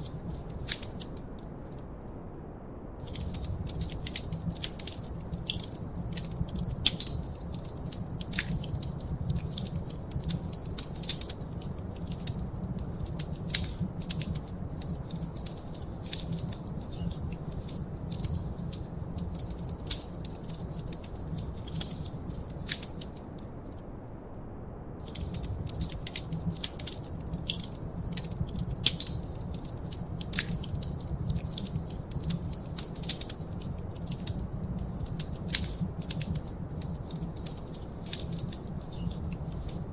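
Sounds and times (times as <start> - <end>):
wood fire crackling: 0.0 - 1.9, 3.0 - 23.9, 25.0 - 39.9.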